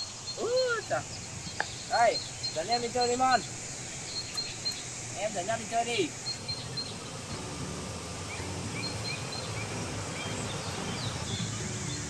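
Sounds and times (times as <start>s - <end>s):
faint bird chirps: 0.0s - 12.0s
outdoor background noise: 0.0s - 12.0s.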